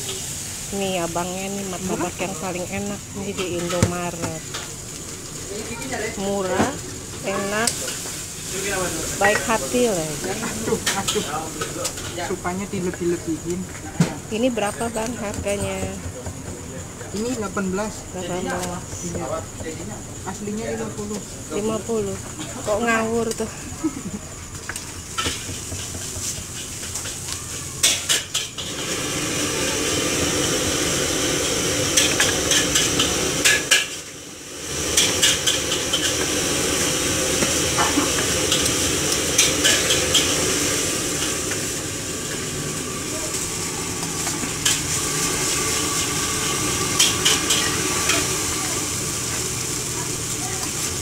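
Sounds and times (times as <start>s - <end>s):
steady hiss: 0.0s - 51.0s.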